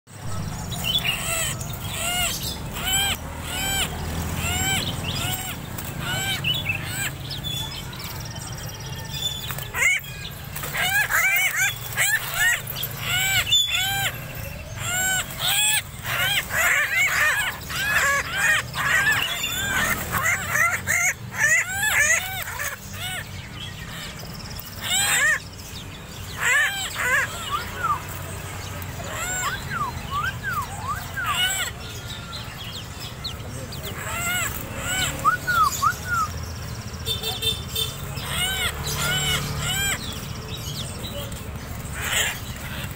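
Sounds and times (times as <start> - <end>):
friarbird calling: 0.2 - 36.5, 37.1 - 42.9.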